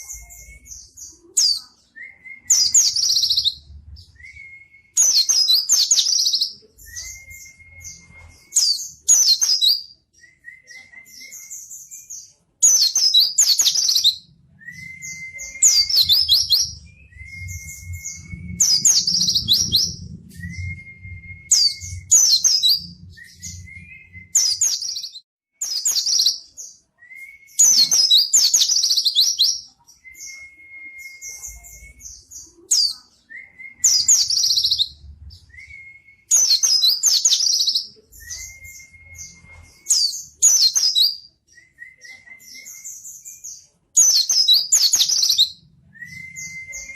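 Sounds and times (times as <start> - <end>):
bird whistling and twittering: 0.0 - 46.9.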